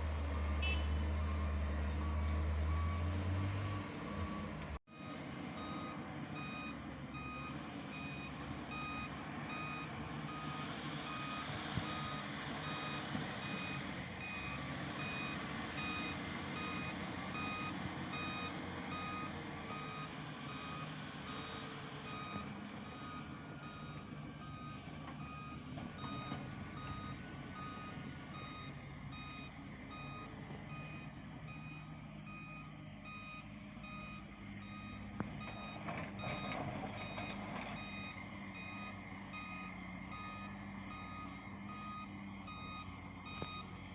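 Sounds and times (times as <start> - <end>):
diesel engines running: 0.0 - 43.9
reversing alarm beeping: 0.5 - 43.9.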